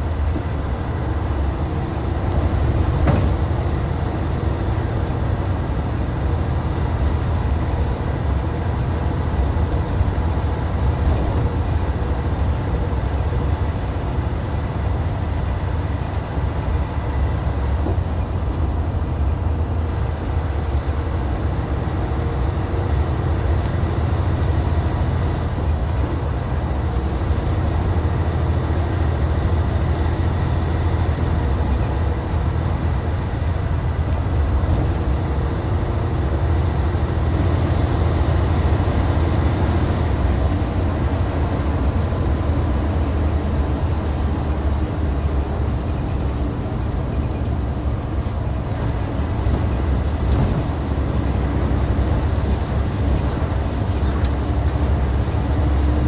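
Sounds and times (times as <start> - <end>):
coach diesel engine droning: 0.0 - 56.0
road noise: 0.0 - 56.0.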